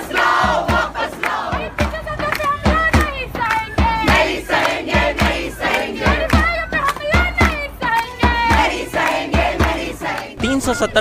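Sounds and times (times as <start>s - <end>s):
hand drum beating: 0.0s - 10.8s
crowd chanting slogans: 0.0s - 11.0s.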